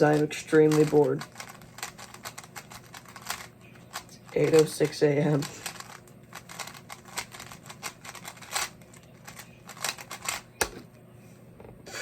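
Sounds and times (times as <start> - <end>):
plastic cube clicks and rattles: 0.1 - 10.8.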